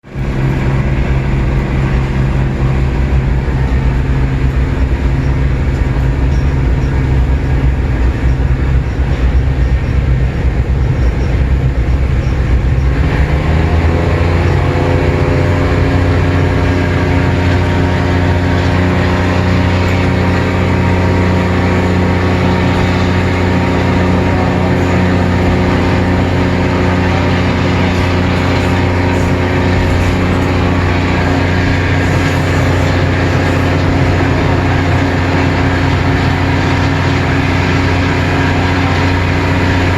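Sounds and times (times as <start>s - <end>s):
train rumble and rattle: 0.0s - 39.9s.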